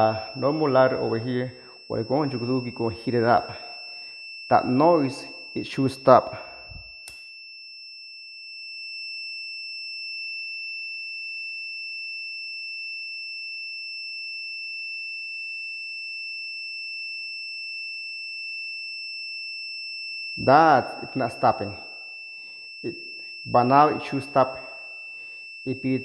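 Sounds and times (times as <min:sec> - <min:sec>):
multimeter continuity buzzer tone: 0:00.0 - 0:26.0.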